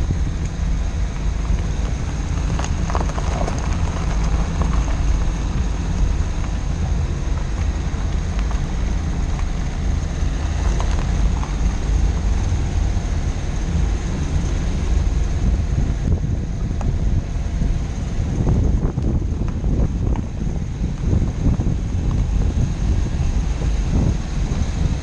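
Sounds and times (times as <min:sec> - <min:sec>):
car driving on gravel: 0:00.0 - 0:25.0
stones crunching under tyres: 0:00.0 - 0:25.0
wind on microphone: 0:00.0 - 0:25.0.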